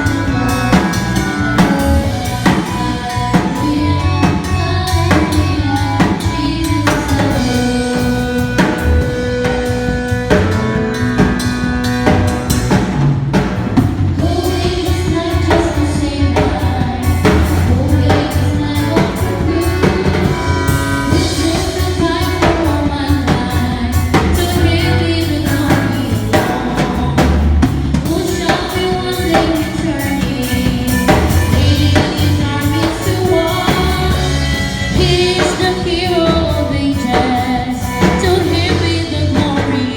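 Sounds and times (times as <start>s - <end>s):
person singing: 0.0s - 12.7s, 14.2s - 39.9s
bass: 0.0s - 39.9s
drum kit beat: 0.0s - 39.9s
worship band playing: 0.0s - 39.9s.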